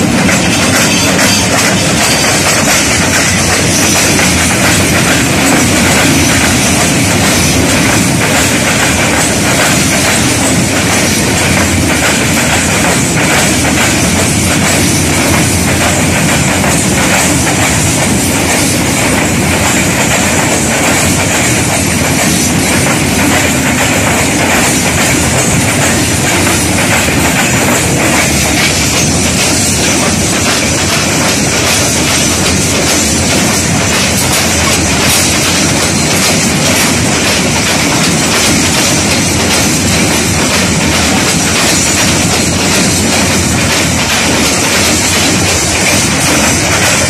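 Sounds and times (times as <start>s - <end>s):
freight train rumbling: 0.0s - 47.0s
train wheels clickety-clack: 0.0s - 47.0s.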